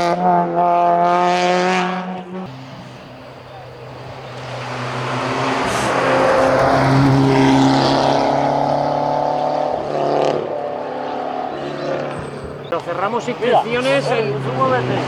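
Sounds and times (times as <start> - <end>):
race car driving past: 0.0 - 15.0.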